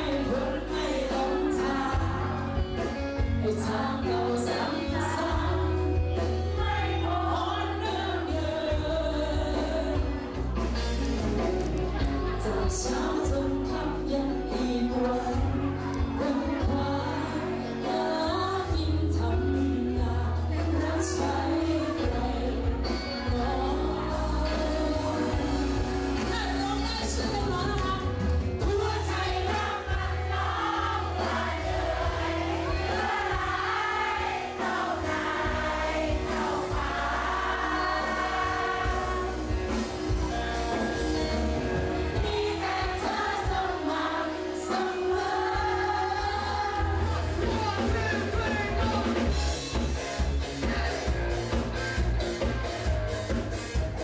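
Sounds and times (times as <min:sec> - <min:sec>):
woman singing: 0:00.0 - 0:10.6, 0:12.0 - 0:40.9, 0:42.1 - 0:49.2
backing track with bass line: 0:00.0 - 0:54.0.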